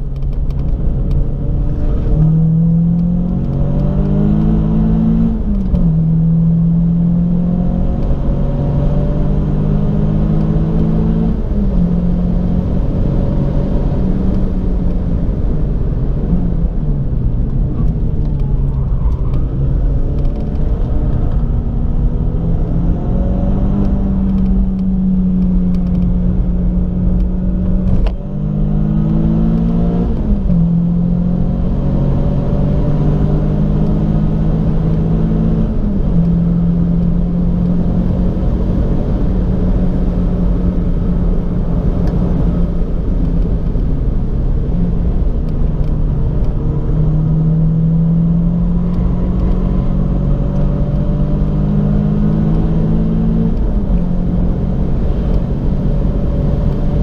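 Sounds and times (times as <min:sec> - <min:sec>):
car engine revving: 0:00.0 - 0:57.0
road and tyre noise: 0:00.0 - 0:57.0.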